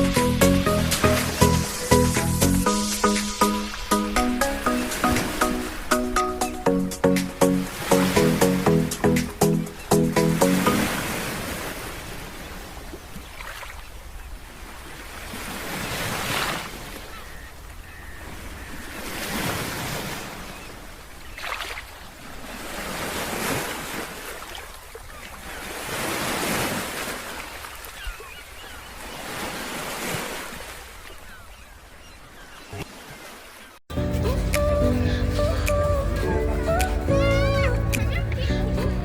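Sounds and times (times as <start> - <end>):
sea waves breaking on beach: 0.0 - 33.8.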